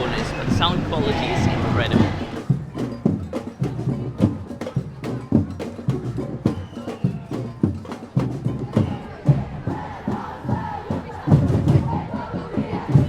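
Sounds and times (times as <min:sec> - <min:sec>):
drums beating march rhythm: 0:00.0 - 0:13.0.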